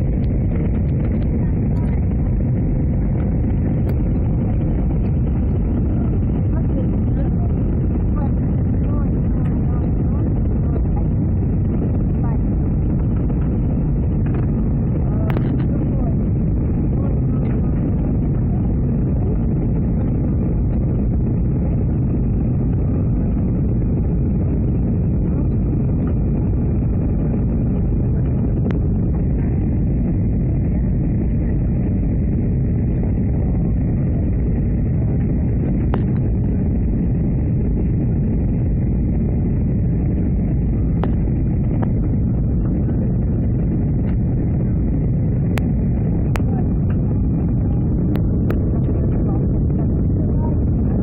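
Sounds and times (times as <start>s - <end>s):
muffled aircraft cabin rumble: 0.0s - 51.0s.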